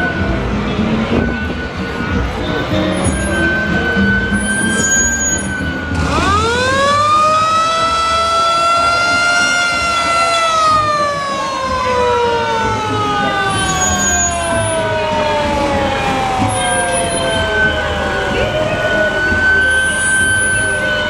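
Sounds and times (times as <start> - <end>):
siren wailing: 0.0 - 21.0.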